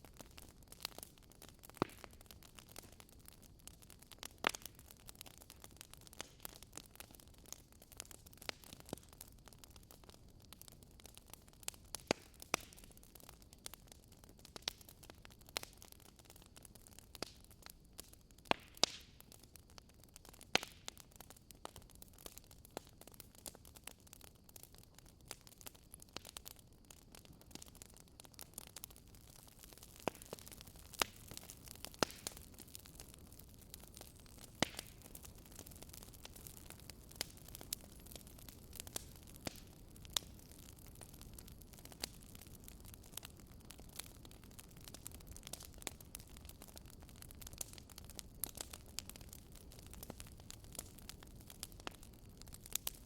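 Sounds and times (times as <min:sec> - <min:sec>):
fireplace fire crackling: 0:00.0 - 0:53.0.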